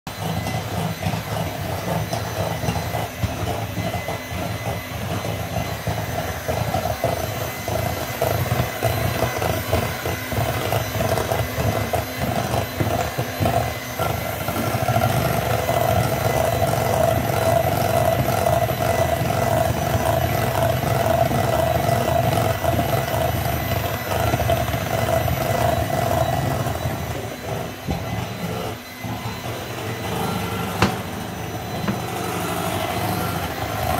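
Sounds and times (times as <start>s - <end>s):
electric hand mixer running: 0.1s - 33.9s.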